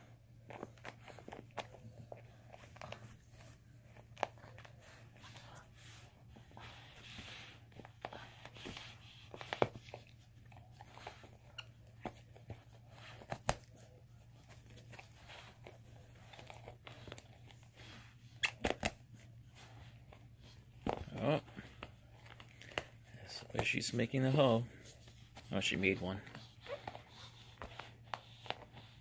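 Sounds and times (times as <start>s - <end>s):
dog chewing a toy: 0.0s - 29.0s.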